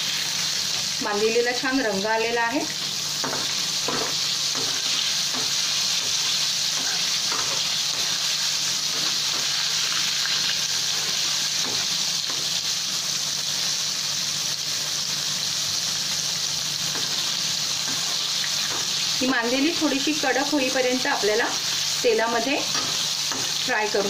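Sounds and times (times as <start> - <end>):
fish deep-frying in hot oil: 0.0 - 24.0.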